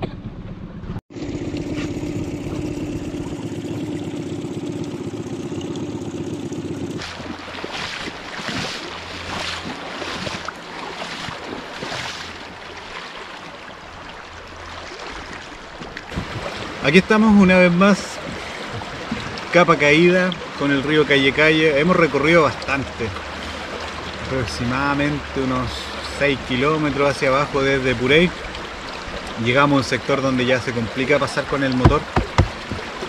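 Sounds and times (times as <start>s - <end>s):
outboard motor humming: 0.0s - 33.0s
water lapping over stones: 1.7s - 33.0s.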